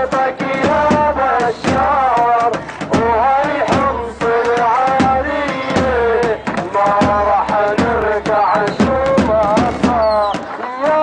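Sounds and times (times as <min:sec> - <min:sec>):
drum strikes: 0:00.0 - 0:11.0
man singing a chant: 0:00.0 - 0:11.0.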